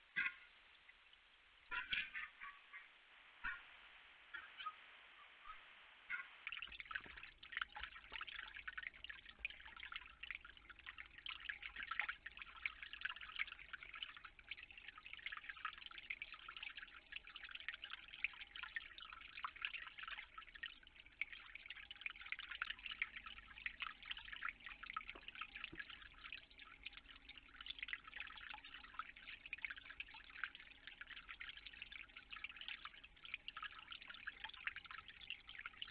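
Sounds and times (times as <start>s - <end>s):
water dripping: 0.0s - 4.8s, 5.4s - 35.9s.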